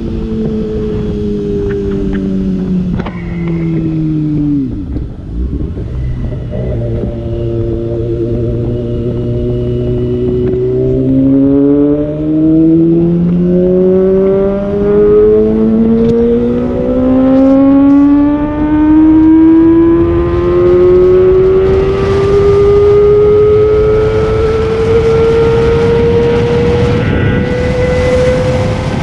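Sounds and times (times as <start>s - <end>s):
motorcycle engine accelerating: 0.0s - 29.0s
wind rush on microphone: 0.0s - 29.0s.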